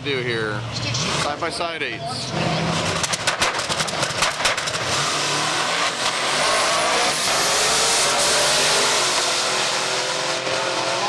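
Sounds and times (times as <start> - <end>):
drag car engines accelerating: 0.0 - 11.0.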